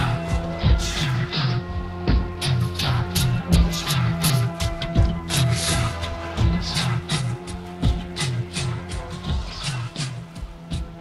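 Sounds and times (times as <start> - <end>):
bass line: 0.0 - 11.0
held chords: 0.0 - 11.0.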